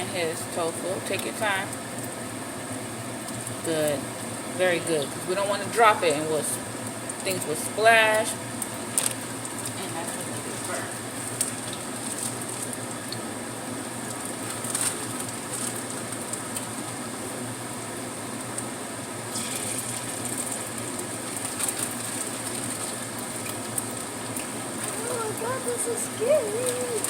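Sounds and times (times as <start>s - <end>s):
tofu frying in hot oil: 0.4s - 27.0s
oil crackling and popping: 3.0s - 5.2s, 6.6s - 27.0s.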